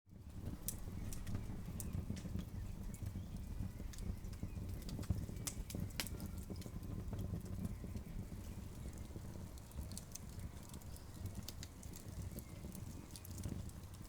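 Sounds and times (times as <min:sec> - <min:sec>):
campfire crackling: 0:00.1 - 0:14.0.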